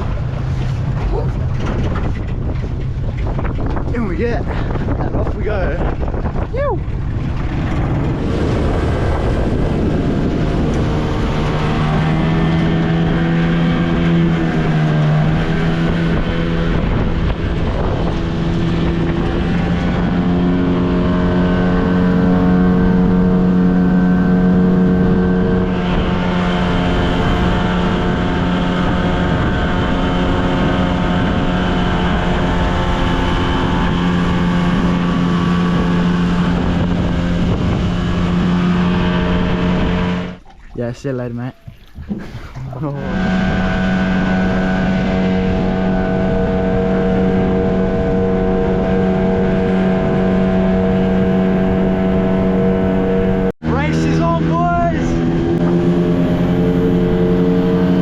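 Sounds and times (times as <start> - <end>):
outboard motor drone: 0.0 - 58.0.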